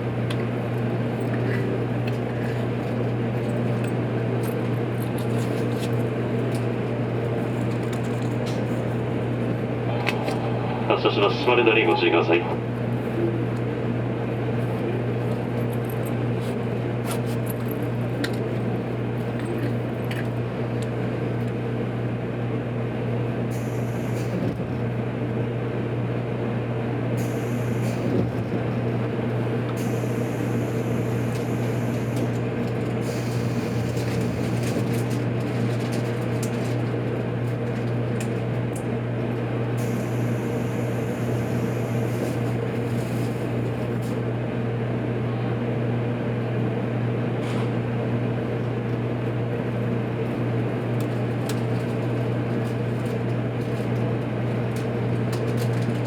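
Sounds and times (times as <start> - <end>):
electrical hum: 0.0 - 45.7
air-conditioning drone: 0.0 - 56.0.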